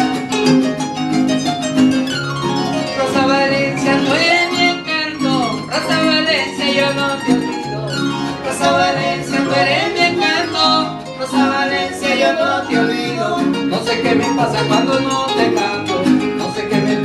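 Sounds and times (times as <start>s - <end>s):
small guitar: 0.0s - 17.0s.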